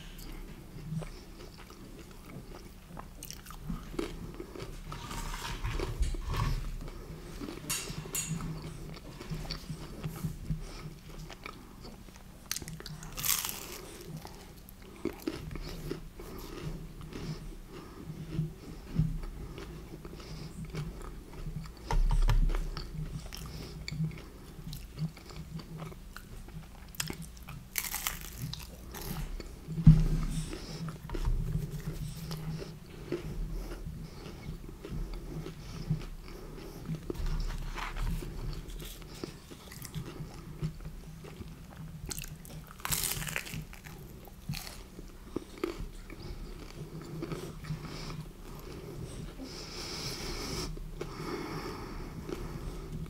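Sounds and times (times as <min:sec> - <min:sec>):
chewing and crunching pizza: 0:00.0 - 0:53.0.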